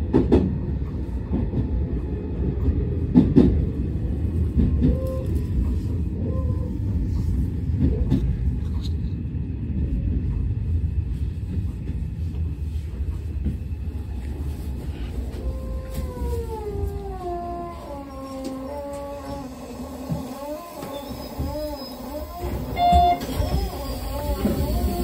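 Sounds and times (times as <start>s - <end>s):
train rumble inside passenger car: 0.0s - 25.0s.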